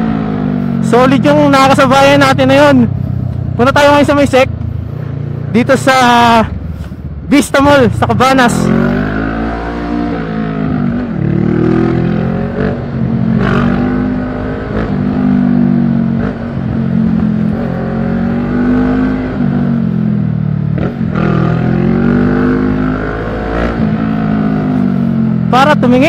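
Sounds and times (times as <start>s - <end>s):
motorcycle engine revving: 0.0s - 6.7s, 7.9s - 26.0s.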